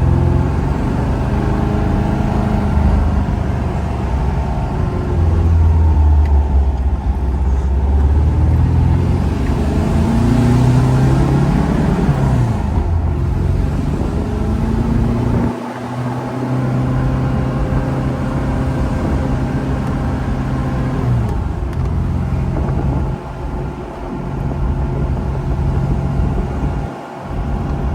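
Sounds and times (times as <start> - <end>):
car engine while driving: 0.0 - 27.9.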